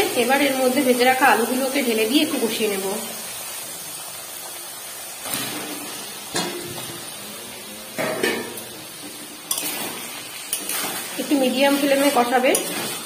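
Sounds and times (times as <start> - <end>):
paste sizzling in pan: 0.0 - 13.0.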